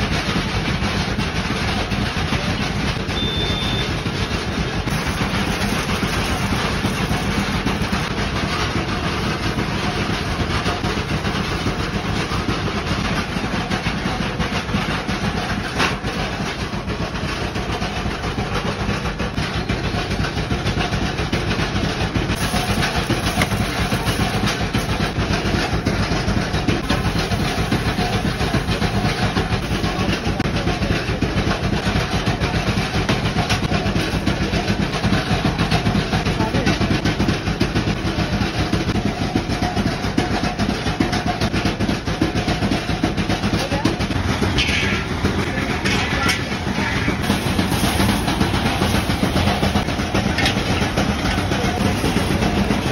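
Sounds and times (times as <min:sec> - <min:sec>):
machine running loudly: 0:00.0 - 0:52.9.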